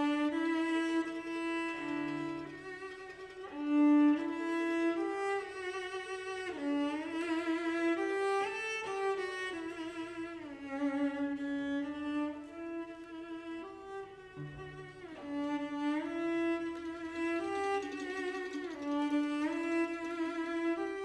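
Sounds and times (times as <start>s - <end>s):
bowed strings slow melody: 0.0s - 21.0s.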